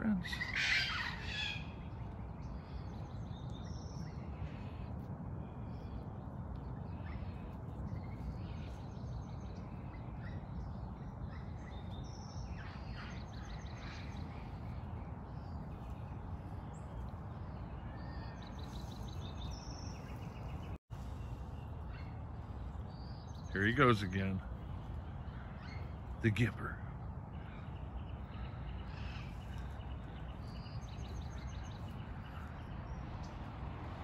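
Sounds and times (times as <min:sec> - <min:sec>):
outdoor background rumble: 0:00.0 - 0:34.0.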